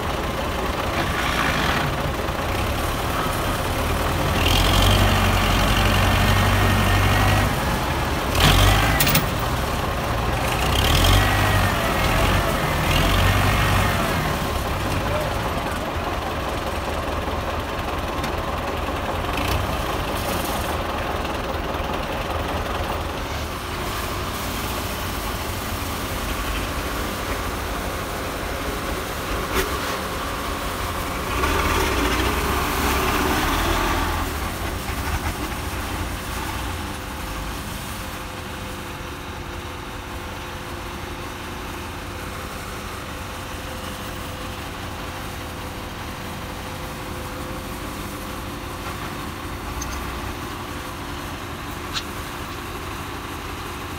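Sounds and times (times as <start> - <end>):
diesel tractor engines running: 0.0 - 53.9.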